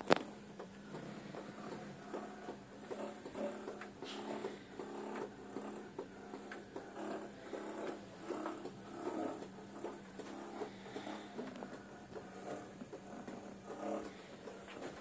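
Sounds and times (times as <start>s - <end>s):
rotator motors whirring: 0.0s - 15.0s.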